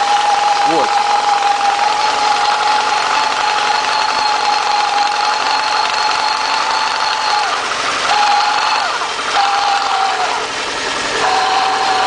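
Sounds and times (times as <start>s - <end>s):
car engine idling: 0.0s - 12.0s
gearbox whine: 0.0s - 12.0s.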